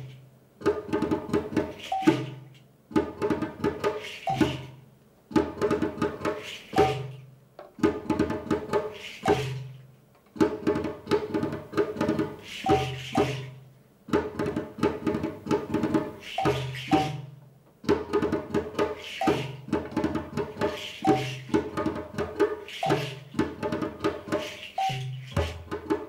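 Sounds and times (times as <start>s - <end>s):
djembe hand strikes: 0.0s - 9.8s, 10.4s - 26.0s.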